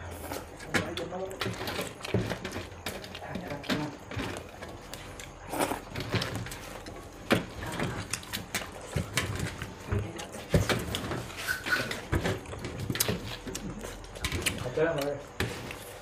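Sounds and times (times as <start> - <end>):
people eating by hand: 0.0 - 16.0.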